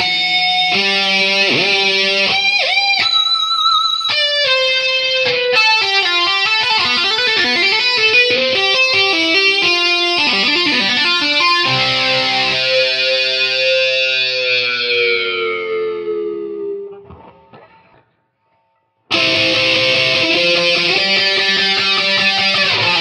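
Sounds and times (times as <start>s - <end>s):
lead guitar with pitch bends: 0.0s - 23.0s.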